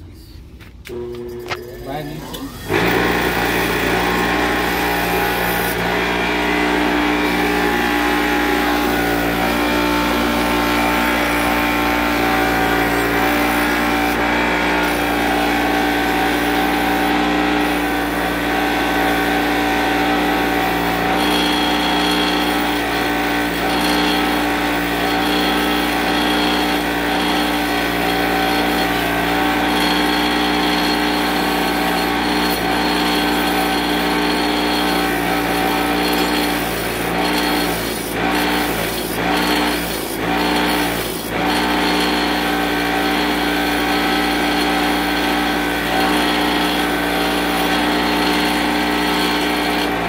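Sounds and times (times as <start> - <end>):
bench grinder whining: 0.8 - 50.0.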